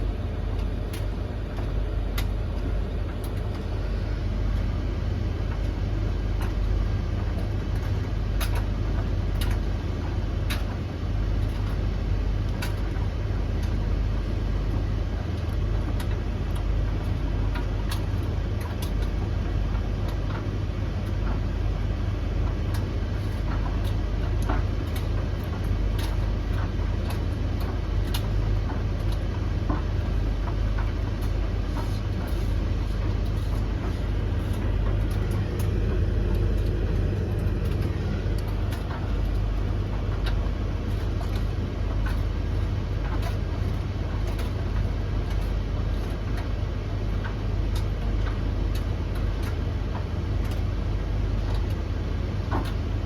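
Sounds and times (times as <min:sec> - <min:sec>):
tumble dryers rumbling: 0:00.0 - 0:53.0.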